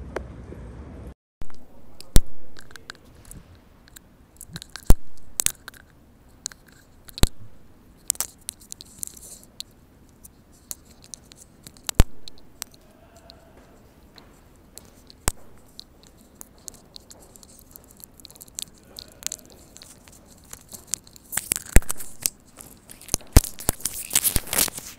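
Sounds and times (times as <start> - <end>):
sharp clicks and taps: 1.4 - 24.8.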